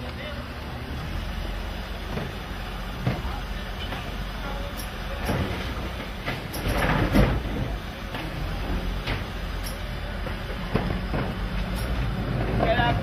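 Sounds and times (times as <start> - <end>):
garbage truck running: 0.0 - 13.0.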